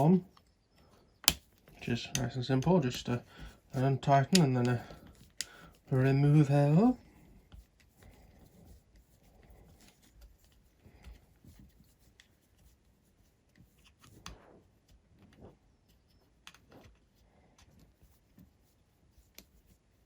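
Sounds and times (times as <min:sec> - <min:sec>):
faint clicks and rustles of hands: 0:00.0 - 0:20.0.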